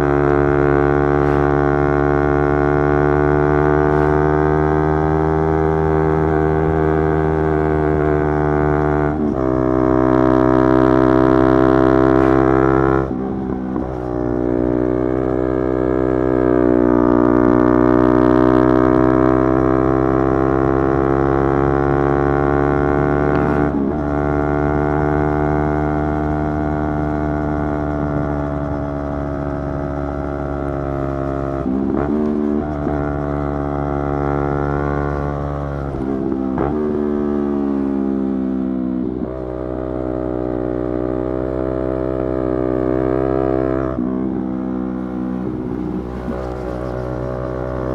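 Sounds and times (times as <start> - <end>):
motorcycle engine shifting gears: 0.0 - 47.9.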